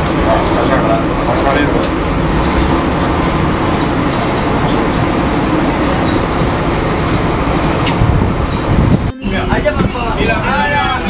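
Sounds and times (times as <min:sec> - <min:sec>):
street traffic: 0:00.0 - 0:11.0
tram low rumble: 0:00.0 - 0:11.0.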